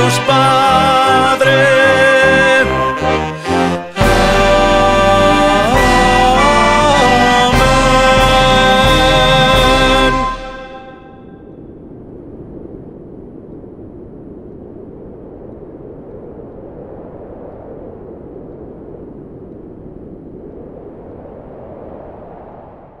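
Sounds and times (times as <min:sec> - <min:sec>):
low rumbling noise: 0:00.0 - 0:23.0.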